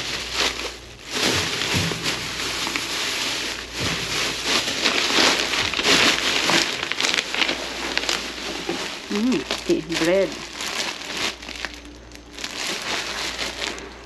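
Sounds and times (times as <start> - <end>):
plastic bags rustling and crinkling: 0.0 - 14.0.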